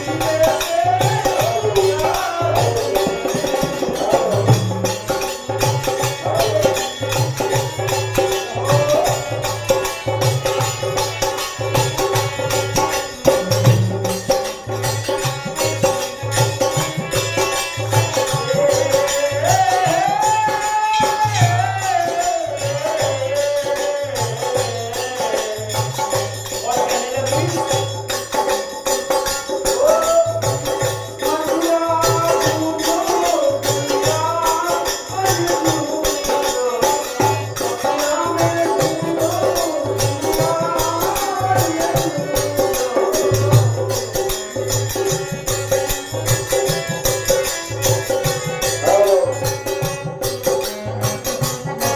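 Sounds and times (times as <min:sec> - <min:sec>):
hand drum beat: 0:00.0 - 0:51.9
jingling tambourine: 0:00.0 - 0:51.9.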